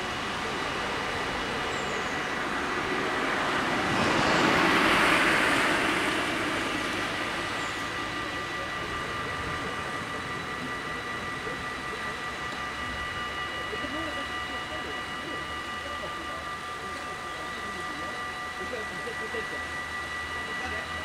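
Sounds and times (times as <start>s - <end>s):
level-crossing warning bells: 0.0s - 21.0s.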